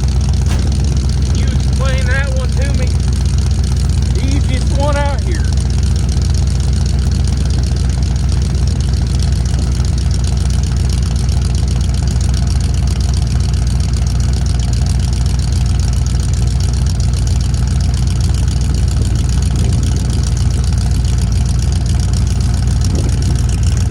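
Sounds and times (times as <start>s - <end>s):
old vehicle engine idling: 0.0s - 23.9s.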